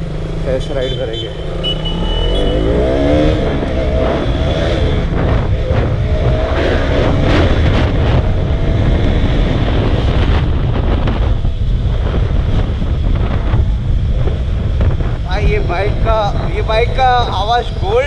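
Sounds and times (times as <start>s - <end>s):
wind buffeting microphone: 2.6s - 18.0s.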